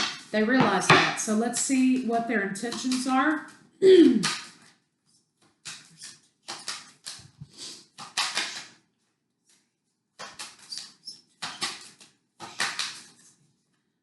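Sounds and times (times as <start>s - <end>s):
cards rustling and slapping: 1.6s - 13.8s.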